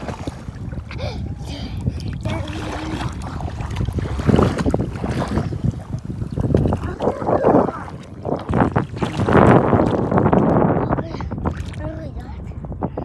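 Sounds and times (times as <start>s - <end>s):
sea water sloshing: 0.0s - 12.2s
wind buffeting microphone: 0.0s - 13.0s.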